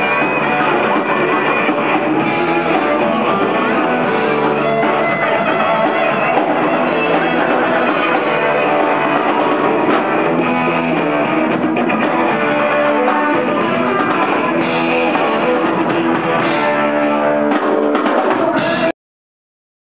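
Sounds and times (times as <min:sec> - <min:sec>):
bass guitar: 0:00.0 - 0:18.9
electric guitar: 0:00.0 - 0:18.9
live rock band playing: 0:00.0 - 0:18.9.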